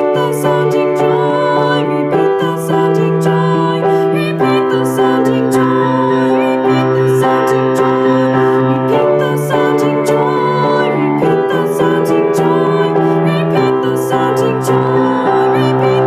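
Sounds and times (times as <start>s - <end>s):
sustained keyboard chords: 0.0s - 16.0s.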